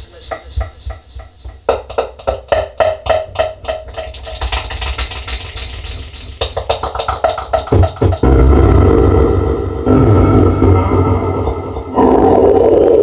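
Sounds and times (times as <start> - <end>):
beatboxing with echo: 0.0 - 13.0.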